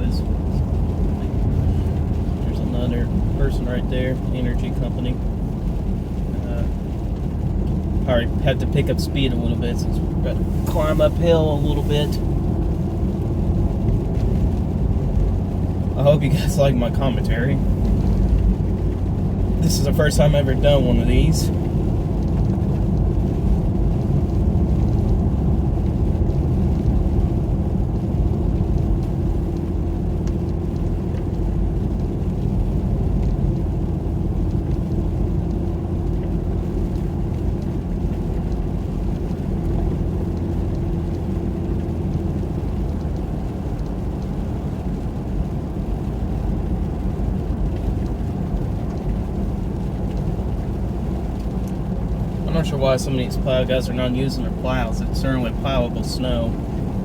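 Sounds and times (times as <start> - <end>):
car road noise from inside: 0.0 - 57.0.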